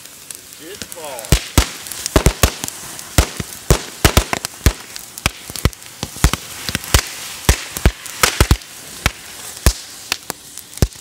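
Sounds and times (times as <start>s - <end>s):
fire hissing: 0.0s - 11.0s
firecrackers popping: 0.0s - 11.0s.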